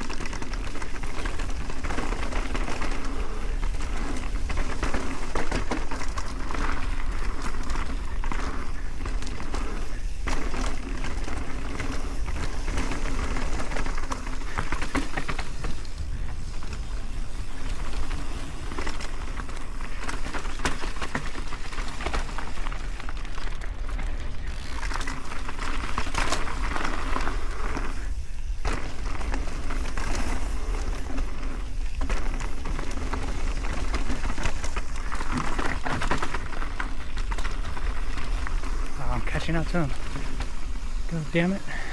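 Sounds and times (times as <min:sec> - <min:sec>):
bike tyres crackling on gravel: 0:00.0 - 0:41.9.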